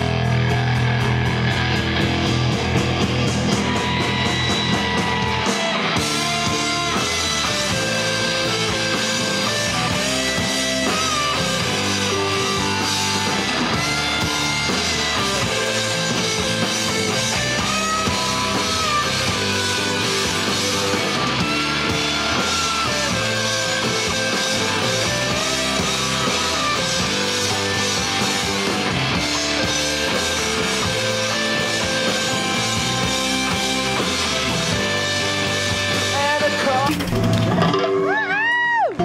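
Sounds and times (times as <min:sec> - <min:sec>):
bass guitar: 0:00.0 - 0:39.0
drum kit: 0:00.0 - 0:39.0
electric guitars: 0:00.0 - 0:39.0.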